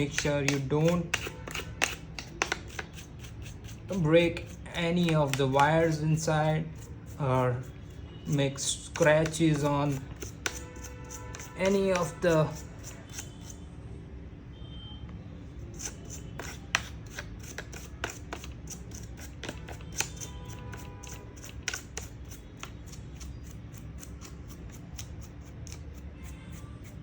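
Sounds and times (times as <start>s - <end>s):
toothbrush brushing strokes: 0.0s - 13.6s, 15.6s - 27.0s.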